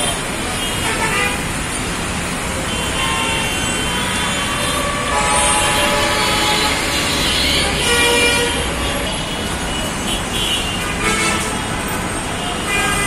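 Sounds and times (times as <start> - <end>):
vehicle horns honking: 0.0 - 1.5, 2.6 - 11.7, 12.4 - 13.0
traffic engines rumbling: 0.0 - 13.0.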